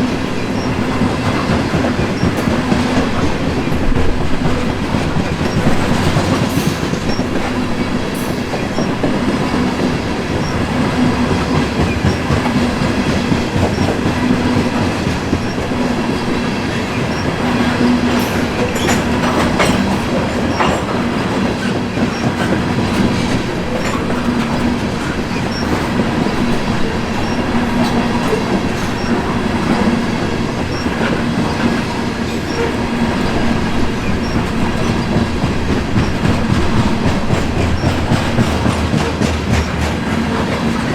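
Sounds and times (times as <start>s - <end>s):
freight train rumble: 0.0s - 40.9s
steel wheels clicking over rail joints: 0.0s - 40.9s.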